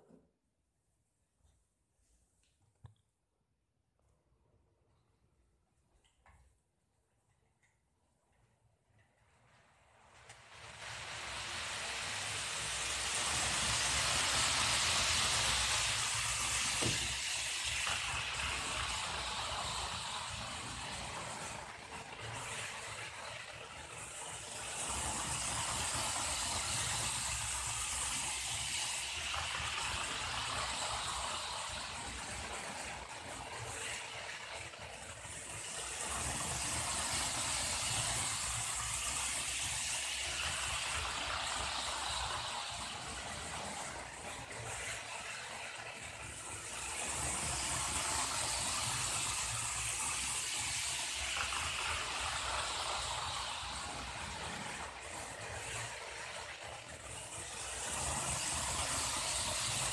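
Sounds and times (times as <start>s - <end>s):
model train whirring and rattling: 8.4s - 59.9s.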